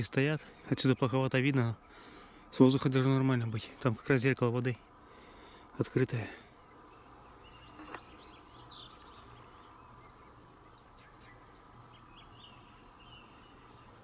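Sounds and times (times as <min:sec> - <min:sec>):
small birds chirping and trilling: 0:00.0 - 0:14.0.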